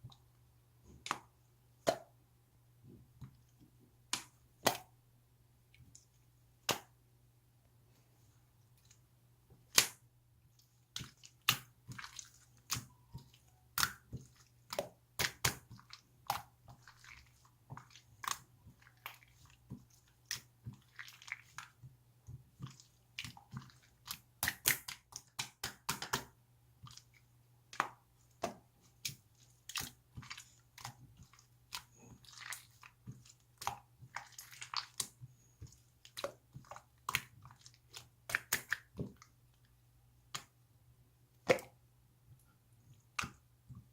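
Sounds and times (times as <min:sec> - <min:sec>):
soft squishing: 0:00.0 - 0:43.9.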